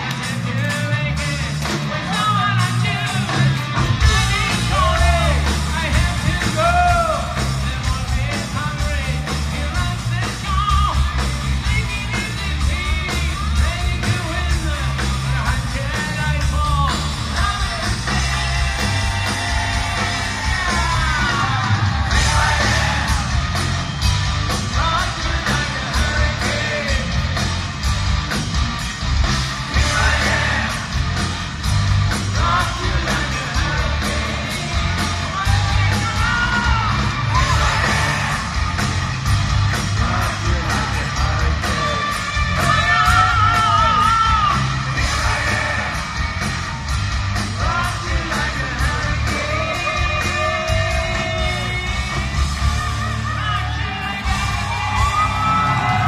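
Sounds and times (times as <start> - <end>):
bass: 0.0 - 56.0
distorted electric guitars: 0.0 - 56.0
drums: 0.0 - 56.0
man singing lead vocal: 0.1 - 23.4, 24.6 - 27.4, 29.7 - 31.1, 32.2 - 38.6, 39.8 - 46.2, 47.4 - 56.0.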